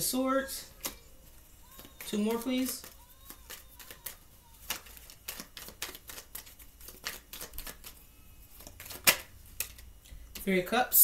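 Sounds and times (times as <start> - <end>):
cards being shuffled: 0.8 - 10.5.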